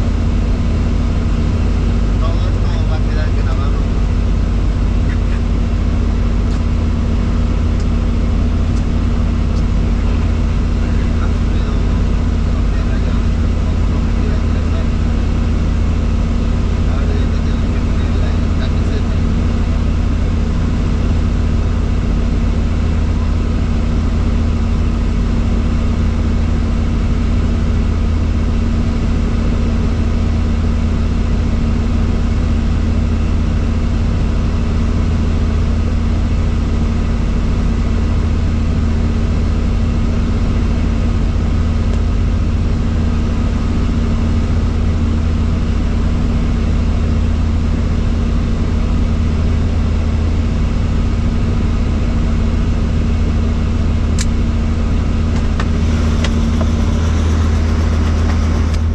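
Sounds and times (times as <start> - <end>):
helicopter rotor drone: 0.0 - 58.9.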